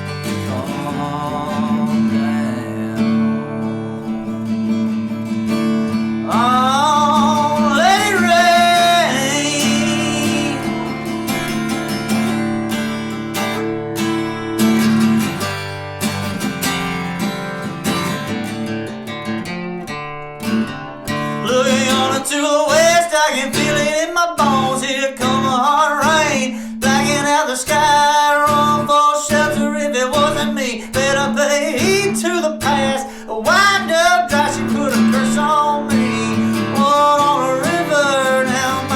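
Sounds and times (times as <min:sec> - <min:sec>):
acoustic guitar strumming: 0:00.0 - 0:38.9
bending guitar melody line: 0:00.0 - 0:38.9.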